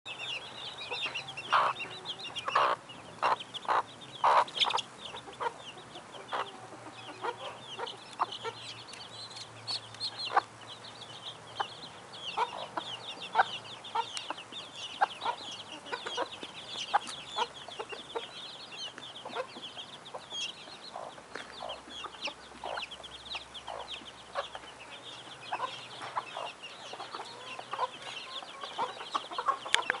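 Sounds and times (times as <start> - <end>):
chicks peeping: 0.1 - 30.0
hen clucking: 0.2 - 30.0.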